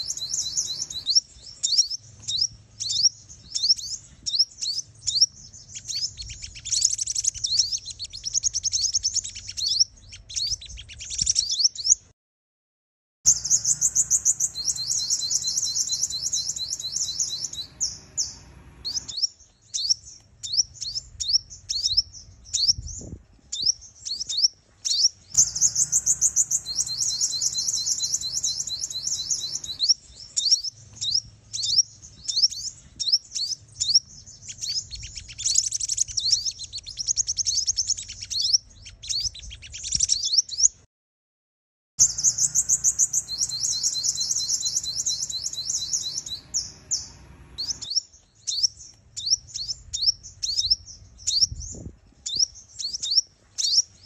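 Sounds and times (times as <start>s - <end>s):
sunbird chirps and trills: 0.0s - 12.0s, 13.3s - 40.9s, 42.0s - 54.0s.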